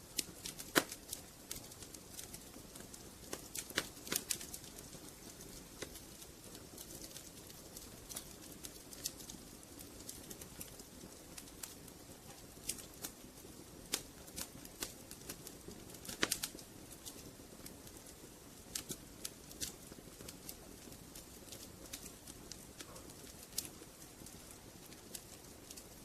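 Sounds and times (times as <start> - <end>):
firewood crackling and popping: 0.0 - 26.0
low rush of fire: 0.1 - 26.0.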